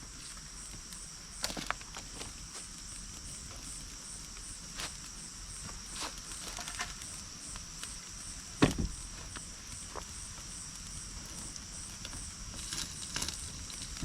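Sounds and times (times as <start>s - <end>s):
insect chirping in pulses: 0.0s - 14.0s
insect trilling: 0.0s - 14.0s.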